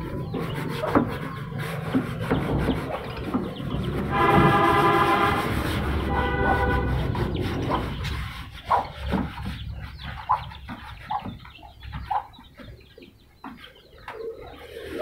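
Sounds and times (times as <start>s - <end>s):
caged birds clucking: 0.0s - 15.0s.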